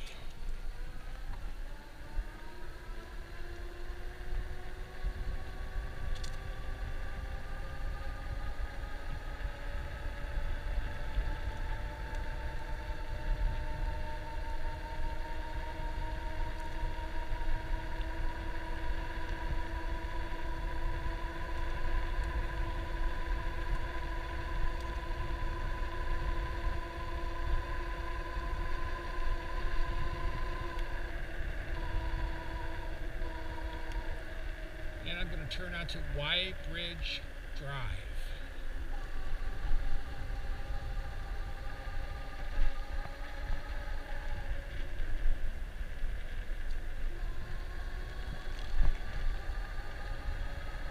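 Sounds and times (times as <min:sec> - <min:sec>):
electric bike motor whining: 0:00.0 - 0:50.9
wind on microphone: 0:00.0 - 0:50.9.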